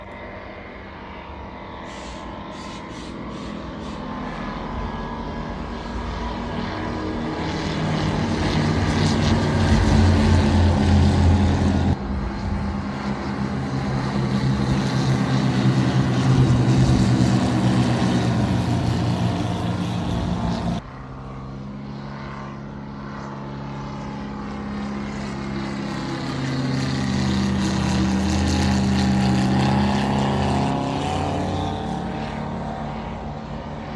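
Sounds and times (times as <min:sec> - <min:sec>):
airplane engine drone: 0:00.0 - 0:33.9.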